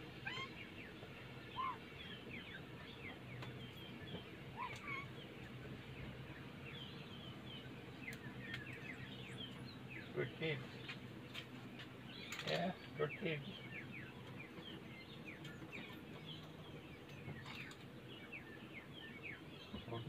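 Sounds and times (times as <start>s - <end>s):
birds chirping: 0.0s - 20.0s
faint steady low hum: 0.0s - 20.0s.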